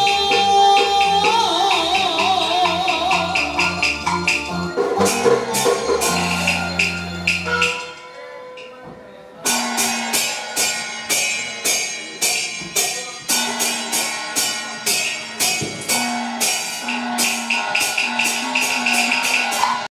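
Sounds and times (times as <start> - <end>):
cymbals and gongs struck: 0.0 - 8.8, 9.4 - 19.9.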